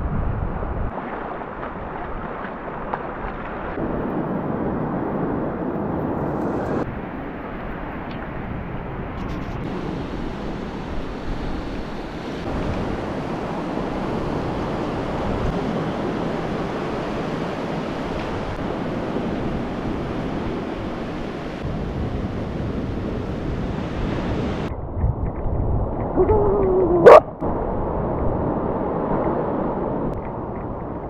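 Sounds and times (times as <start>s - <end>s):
wind buffeting the microphone: 0.0s - 6.9s, 8.6s - 31.0s
ocean surf on a beach: 0.0s - 24.7s, 26.0s - 31.0s.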